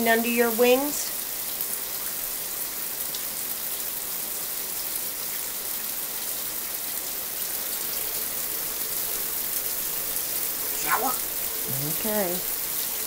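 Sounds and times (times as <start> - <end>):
shower water running: 0.0 - 13.0.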